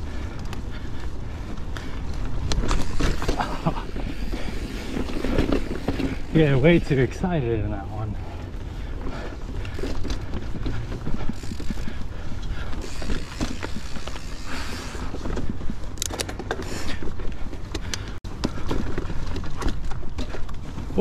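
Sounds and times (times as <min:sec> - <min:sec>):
bike clicks and clatters: 0:00.0 - 0:21.0
wind and tyre rumble: 0:00.0 - 0:21.0.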